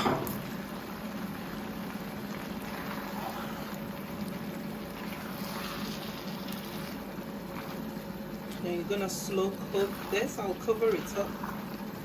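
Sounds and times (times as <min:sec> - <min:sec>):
stew bubbling in a pot: 0:00.0 - 0:12.0.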